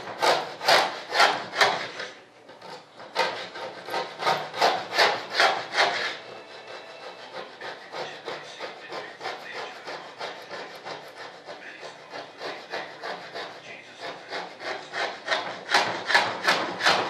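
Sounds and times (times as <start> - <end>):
hand tool rasping on foam: 0.0 - 17.0.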